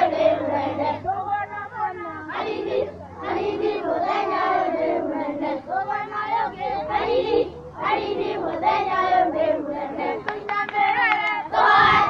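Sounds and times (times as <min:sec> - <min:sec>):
children singing together: 0:00.0 - 0:01.3, 0:02.3 - 0:12.0.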